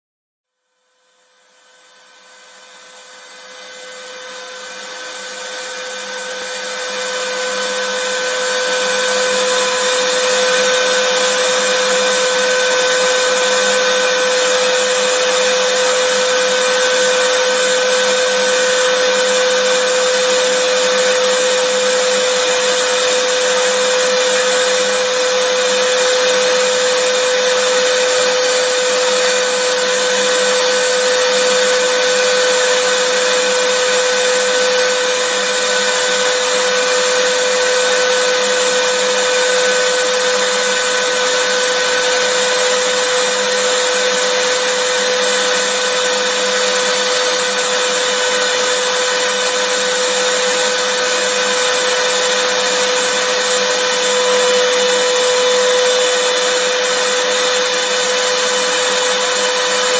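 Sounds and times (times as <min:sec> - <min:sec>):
vacuum cleaner running: 0:00.8 - 0:59.9.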